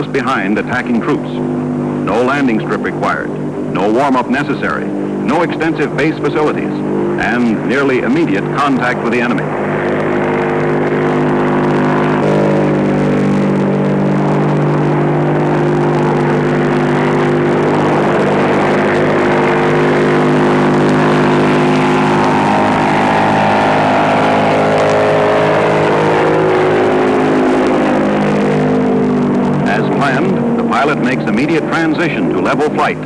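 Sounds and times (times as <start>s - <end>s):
rushing noise: 0.0s - 33.0s
turboprop engine drone: 0.0s - 33.0s.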